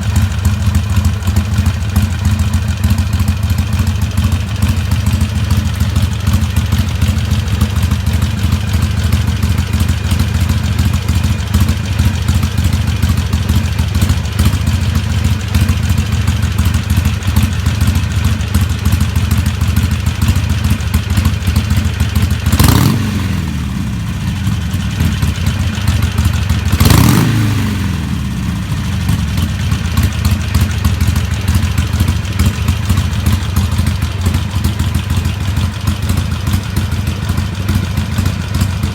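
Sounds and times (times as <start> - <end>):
motorcycle idling and revving: 0.0 - 38.9.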